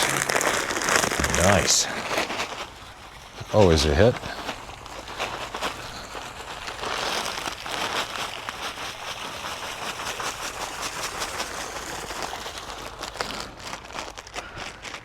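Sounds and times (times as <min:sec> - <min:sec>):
crackling and rustling of scraps: 0:00.0 - 0:15.0.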